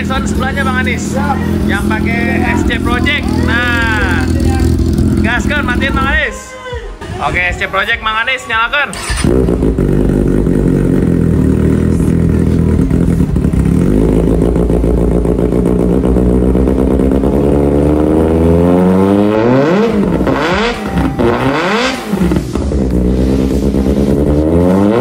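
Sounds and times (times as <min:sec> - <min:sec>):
motorcycle engine idling and revving: 0:00.0 - 0:06.2, 0:09.0 - 0:25.0.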